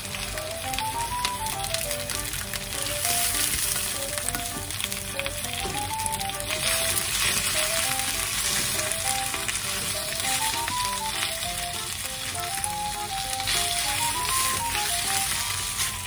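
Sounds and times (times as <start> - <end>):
meat sizzling in a frying pan: 0.0 - 16.0
soft background melody: 0.0 - 16.0
chopsticks stirring meat: 1.7 - 16.0.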